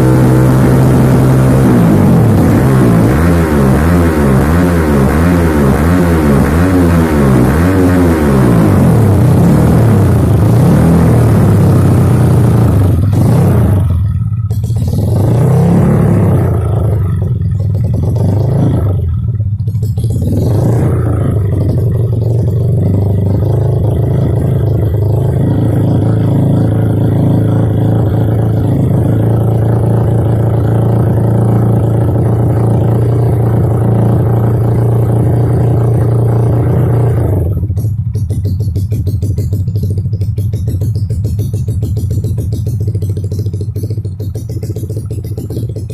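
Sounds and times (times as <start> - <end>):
trail bike engine revving and idling: 0.0 - 45.9.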